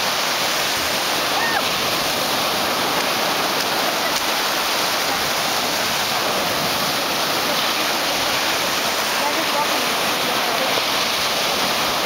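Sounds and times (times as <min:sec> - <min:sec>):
small waves breaking: 0:00.0 - 0:12.0.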